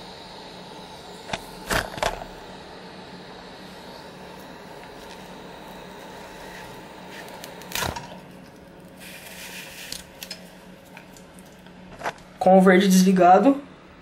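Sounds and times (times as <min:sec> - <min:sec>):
power supply fan humming: 0:00.0 - 0:14.0.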